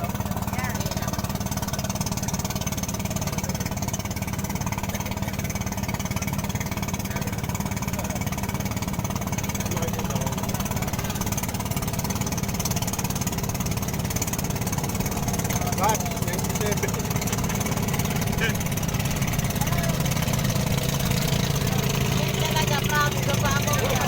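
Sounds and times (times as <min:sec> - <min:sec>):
small engine rattling: 0:00.0 - 0:24.0.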